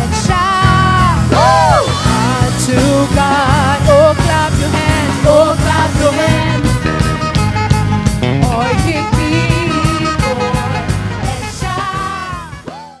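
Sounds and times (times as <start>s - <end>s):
worship band playing: 0.0s - 13.0s.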